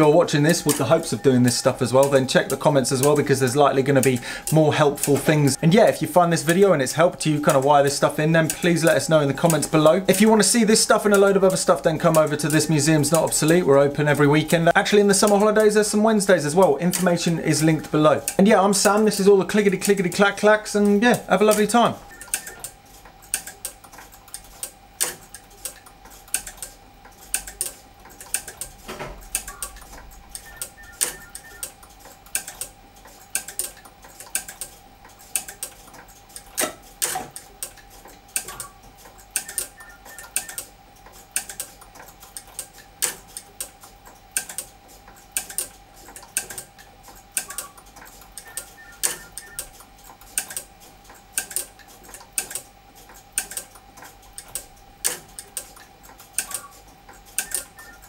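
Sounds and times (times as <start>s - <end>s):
relays clicking: 0.0s - 58.0s.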